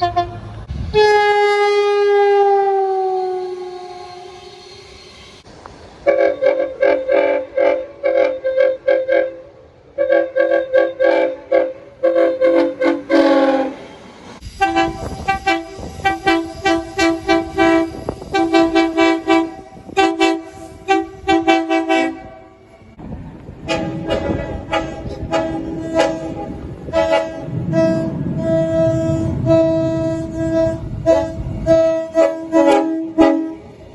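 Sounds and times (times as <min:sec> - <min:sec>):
train air horn blasts: 0:00.0 - 0:04.9, 0:06.0 - 0:13.8, 0:14.5 - 0:23.0, 0:23.6 - 0:33.8
moving train rumble: 0:00.0 - 0:33.9.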